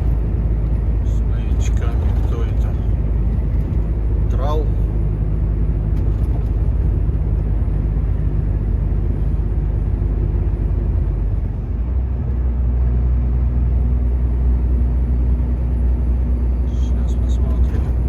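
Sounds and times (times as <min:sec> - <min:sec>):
road and tyre noise: 0:00.0 - 0:18.0
truck diesel engine running: 0:00.0 - 0:18.0.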